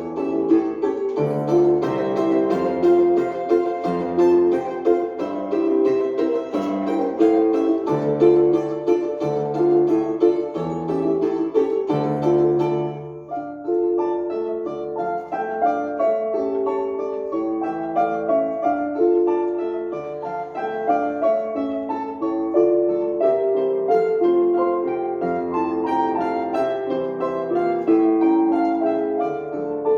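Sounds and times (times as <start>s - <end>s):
piano melody over chords: 0.0s - 29.9s.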